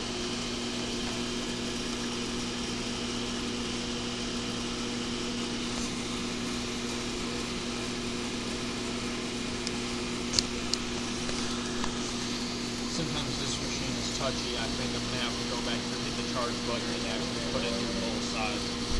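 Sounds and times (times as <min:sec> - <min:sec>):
machine humming: 0:00.0 - 0:18.9.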